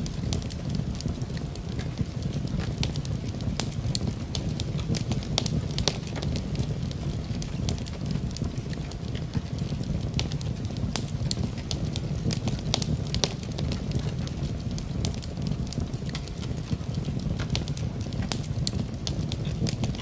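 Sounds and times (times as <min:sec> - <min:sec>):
rain falling: 0:00.0 - 0:20.0
wood fire crackling: 0:00.0 - 0:20.0.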